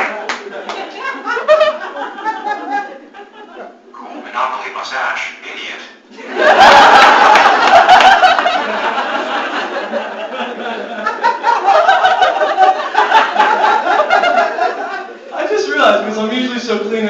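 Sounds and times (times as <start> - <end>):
audience laughing: 0.0 - 4.3, 6.1 - 15.5.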